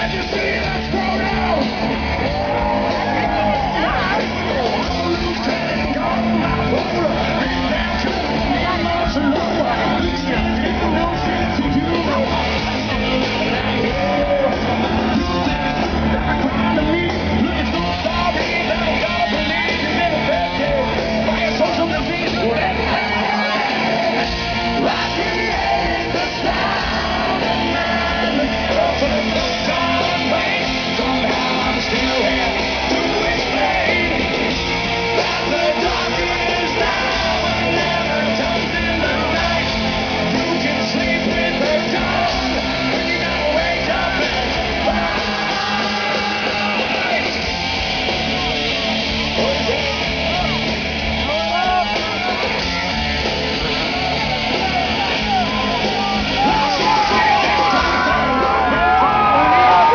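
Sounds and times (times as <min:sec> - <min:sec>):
hard rock song with vocals: 0:00.0 - 0:59.9.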